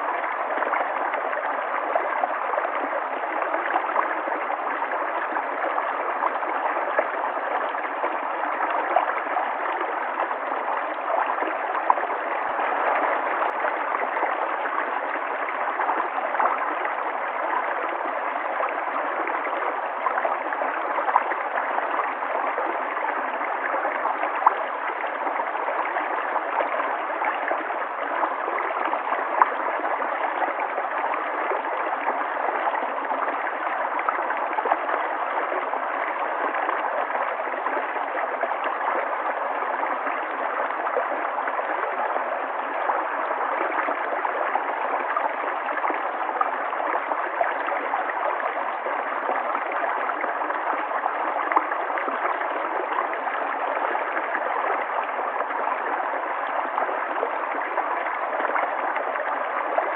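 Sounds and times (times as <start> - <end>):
river water rushing and gurgling: 0.0 - 59.9.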